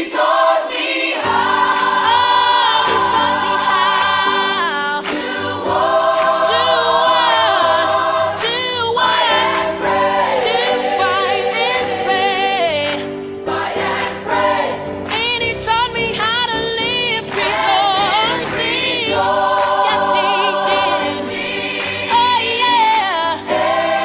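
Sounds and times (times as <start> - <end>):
backing music: 0.0 - 24.0
gospel choir singing: 0.0 - 24.0.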